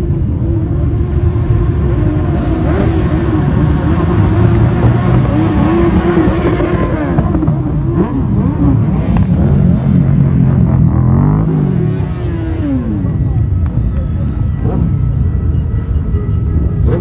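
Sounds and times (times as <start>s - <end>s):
motorcycles riding slowly past: 0.0s - 17.0s.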